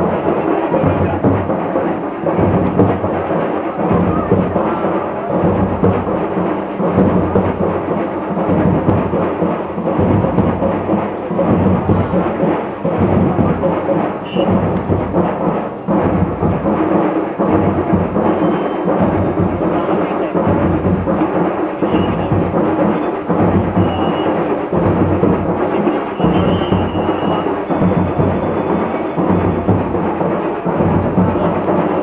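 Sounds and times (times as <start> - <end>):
procession crowd din: 0.0 - 32.0.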